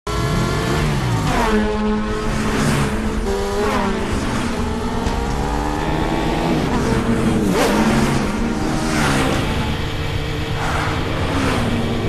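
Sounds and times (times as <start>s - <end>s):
motorcycle engines revving: 0.1s - 12.0s.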